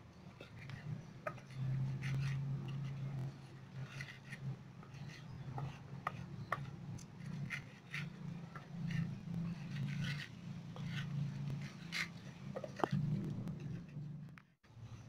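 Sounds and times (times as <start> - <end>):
pestle grinding in mortar: 0.5 - 14.2
low hum: 0.9 - 14.6.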